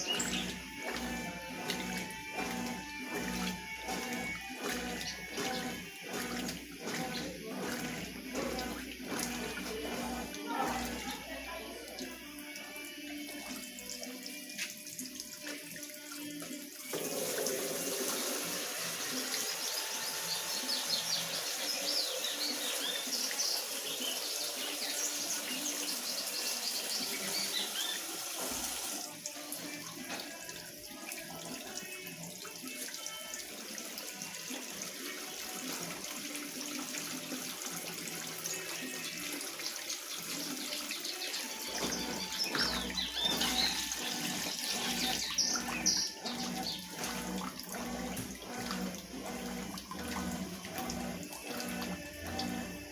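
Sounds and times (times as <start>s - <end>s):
water splashing in washing machine: 0.0s - 52.9s.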